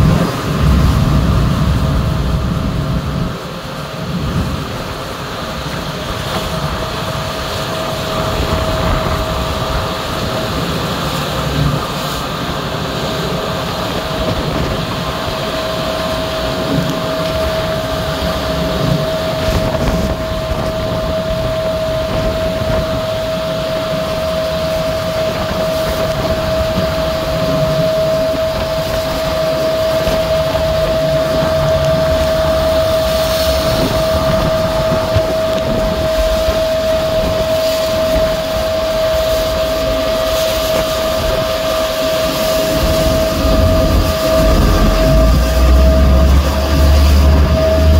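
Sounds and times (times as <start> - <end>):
boat engine drone: 0.0 - 47.9
high whine: 0.0 - 47.9
water rushing and churning: 0.0 - 47.9.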